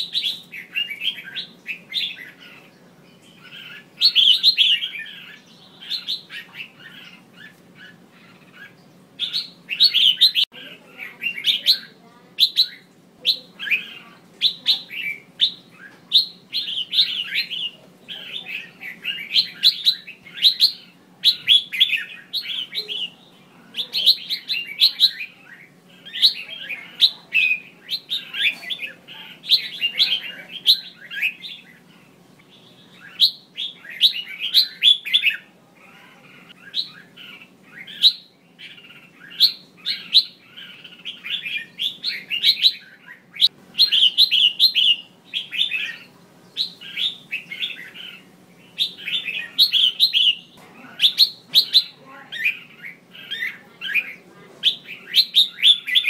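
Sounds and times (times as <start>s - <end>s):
bird chirpy calls: 0.0s - 56.0s
faint steady hum: 0.0s - 56.0s.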